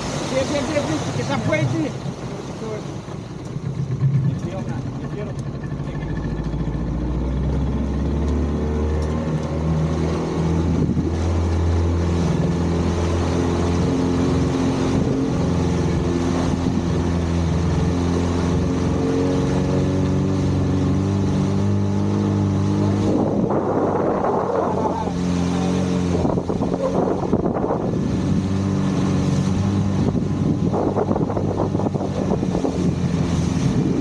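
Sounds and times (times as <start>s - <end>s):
outboard motor running: 0.0s - 34.0s
water and wind rushing: 0.0s - 34.0s.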